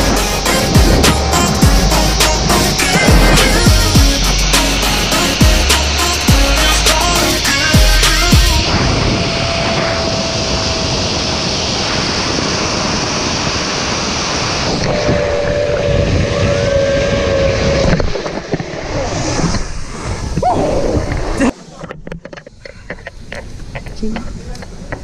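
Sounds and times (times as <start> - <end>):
thin steady whine: 0.0 - 20.2
wind rushing over microphone: 0.0 - 21.6.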